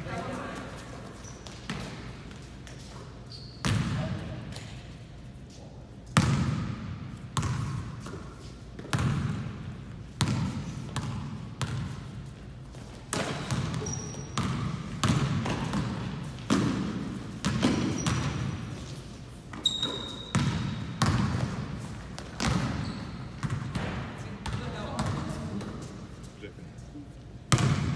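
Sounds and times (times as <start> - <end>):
basketball bouncing in gym: 0.1 - 4.9, 6.1 - 25.9, 27.5 - 27.9.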